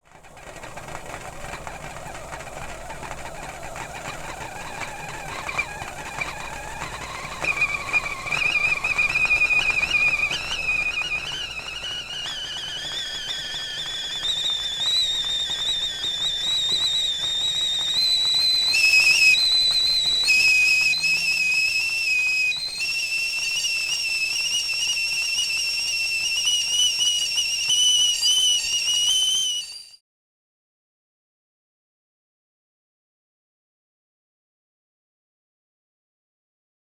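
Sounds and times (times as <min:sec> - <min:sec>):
tea kettle whistling: 0:00.0 - 0:30.0.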